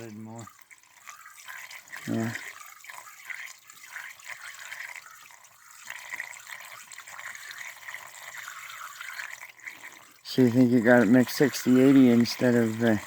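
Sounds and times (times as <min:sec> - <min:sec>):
liquid pouring: 0:00.0 - 0:13.0.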